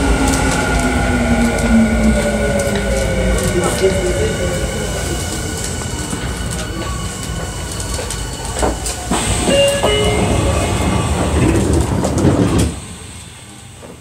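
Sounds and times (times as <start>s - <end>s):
wheels rumbling on rails: 0.0s - 14.0s.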